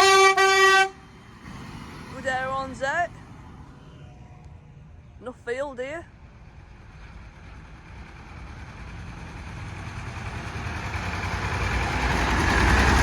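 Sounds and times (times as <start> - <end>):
tractor engine rumble: 0.0 - 13.0.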